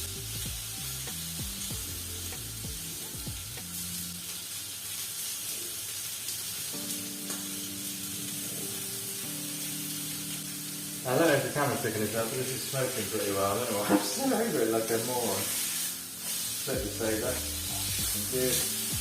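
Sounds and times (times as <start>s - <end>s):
steak sizzling in a pan: 0.0s - 19.0s.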